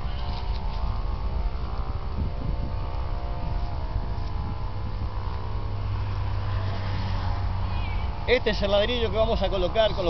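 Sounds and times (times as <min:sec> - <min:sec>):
engine drone: 0:00.0 - 0:10.0
low rumble: 0:00.0 - 0:10.0.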